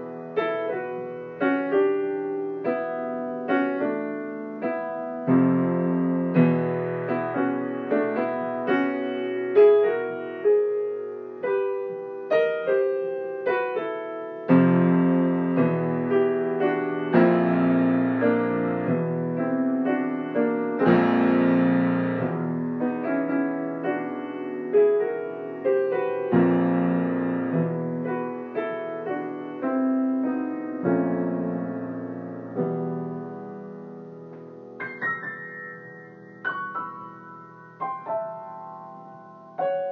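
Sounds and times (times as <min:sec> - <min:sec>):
solo piano chords: 0:00.0 - 0:39.9.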